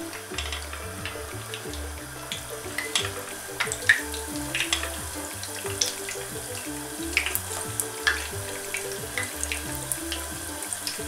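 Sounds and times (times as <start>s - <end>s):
background music with bass line: 0.0s - 11.0s
food sizzling in oil: 0.1s - 11.0s.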